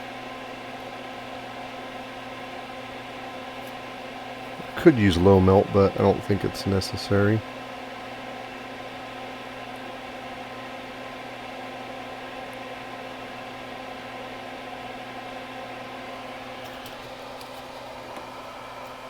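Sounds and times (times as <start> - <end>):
extractor fan humming: 0.0 - 19.0.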